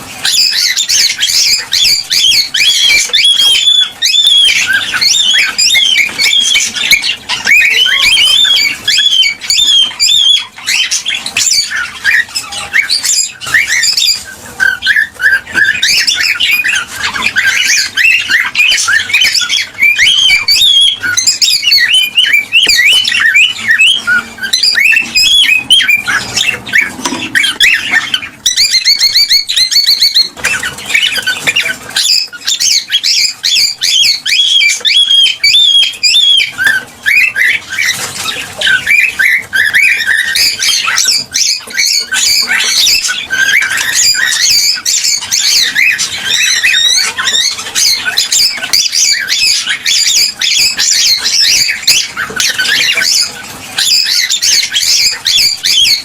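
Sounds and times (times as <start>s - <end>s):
cockatiels chirping and squawking: 0.0s - 56.0s.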